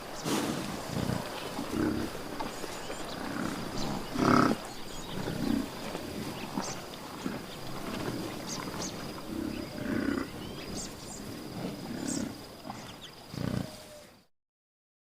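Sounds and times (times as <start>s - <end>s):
lion grunting roars: 0.2s - 14.1s.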